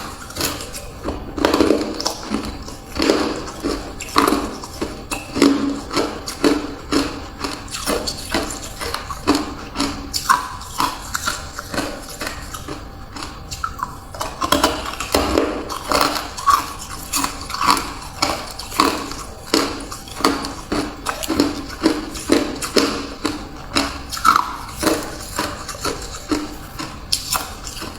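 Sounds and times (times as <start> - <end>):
ice crunching being chewed: 0.0 - 27.9.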